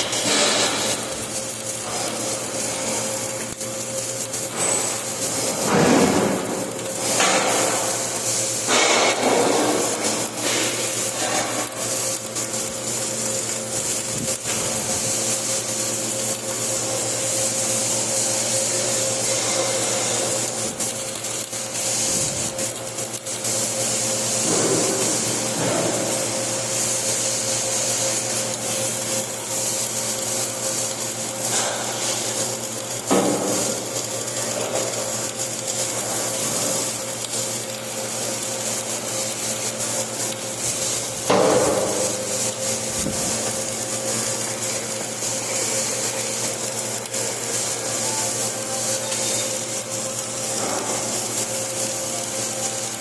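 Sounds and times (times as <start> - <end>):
welding arc buzzing: 0.0 - 53.0.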